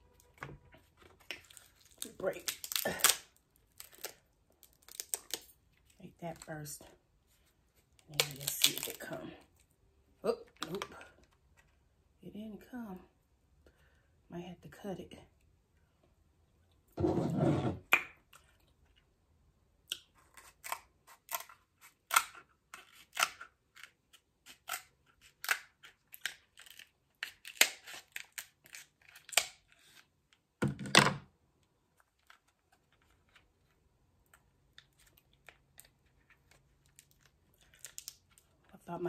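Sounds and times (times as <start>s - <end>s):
small handling noises: 0.0s - 12.2s, 19.9s - 39.0s.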